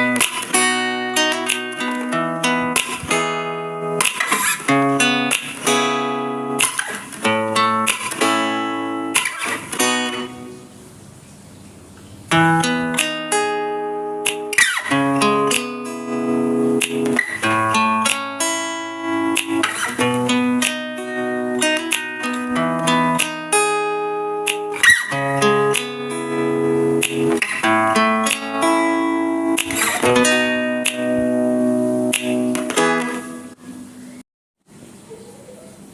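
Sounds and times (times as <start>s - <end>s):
acoustic guitar music: 0.0s - 11.2s, 12.1s - 34.2s.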